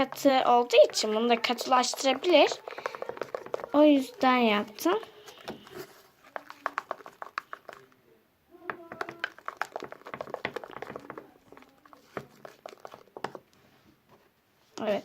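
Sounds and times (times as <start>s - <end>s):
slime clicking and crackling: 0.0s - 7.9s, 8.6s - 13.4s.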